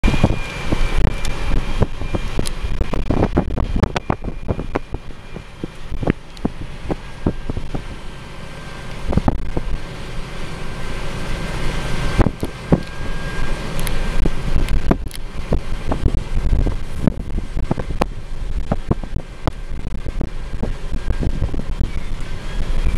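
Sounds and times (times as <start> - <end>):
wind on microphone: 0.0 - 8.2, 8.9 - 9.9, 12.1 - 22.9
vehicle road noise rumble: 0.0 - 22.9.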